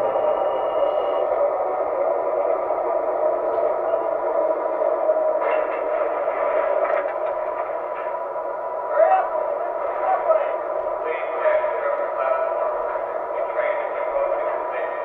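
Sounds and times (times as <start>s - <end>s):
muffled hum from small speaker: 0.0s - 15.0s.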